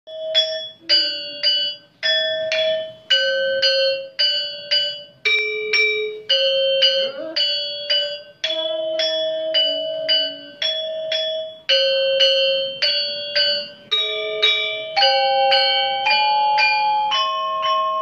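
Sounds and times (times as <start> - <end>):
metallophone melody: 0.1 - 18.0.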